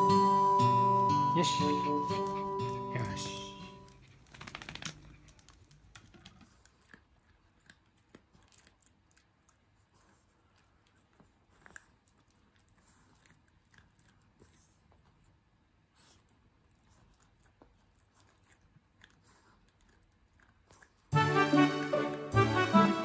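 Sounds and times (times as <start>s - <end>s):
puppy gnawing on blanket: 1.4s - 21.2s.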